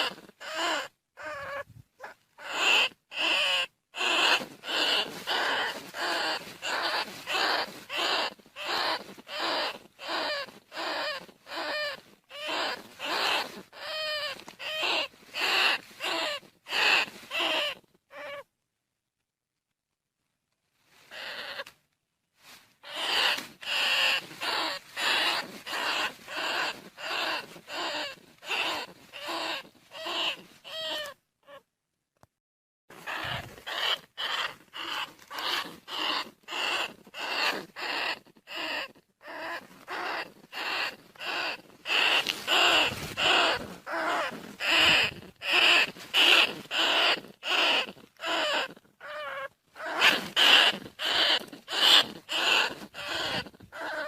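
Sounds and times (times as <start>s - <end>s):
rat squeaking: 0.0s - 18.4s, 21.1s - 21.7s, 22.8s - 31.6s, 32.9s - 54.0s.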